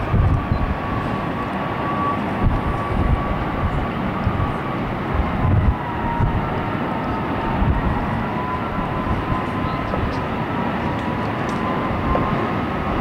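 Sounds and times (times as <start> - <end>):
gas fire roaring: 0.0 - 13.0
wind buffeting microphone: 0.0 - 13.0.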